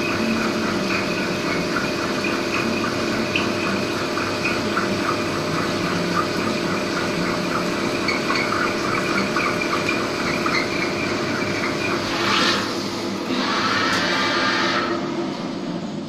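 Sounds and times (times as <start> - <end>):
coolant spraying and splashing: 0.0 - 13.1.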